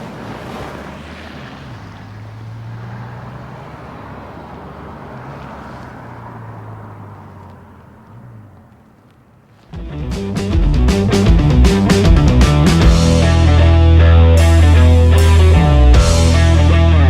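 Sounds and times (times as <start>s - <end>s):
road and wind noise: 0.0s - 17.0s
vehicle engine humming: 0.0s - 17.0s.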